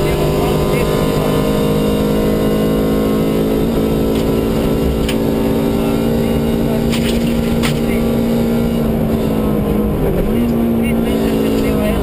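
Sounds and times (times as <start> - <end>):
car engine running at high revs: 0.0 - 12.0.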